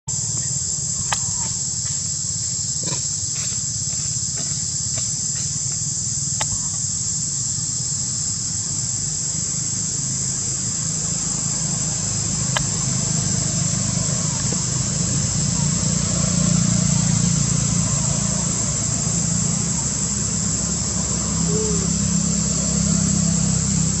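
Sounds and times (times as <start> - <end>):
high-pitched insect drone: 0.1 - 24.0.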